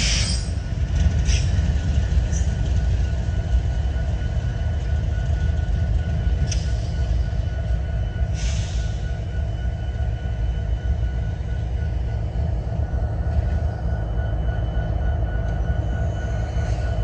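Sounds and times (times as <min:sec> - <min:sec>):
freight train rumble: 0:00.0 - 0:17.0.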